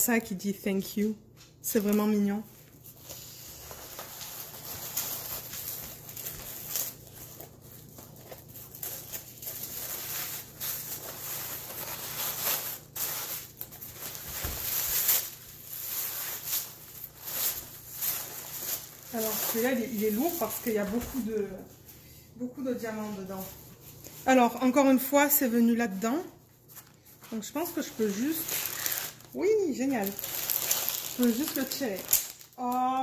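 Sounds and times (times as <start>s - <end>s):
tissue paper rustling: 1.7s - 22.0s, 22.7s - 33.0s.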